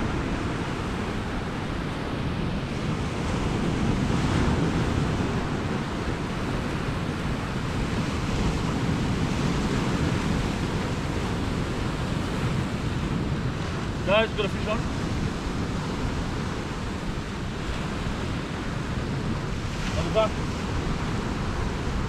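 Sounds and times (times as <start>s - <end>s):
surf washing against rocks: 0.0s - 22.0s
wind buffeting microphone: 0.0s - 22.0s.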